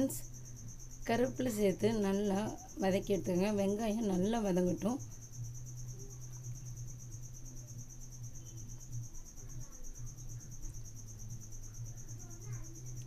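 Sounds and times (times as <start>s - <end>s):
high pulsing insect-like trill: 0.0s - 13.0s
low steady hum: 0.0s - 13.0s.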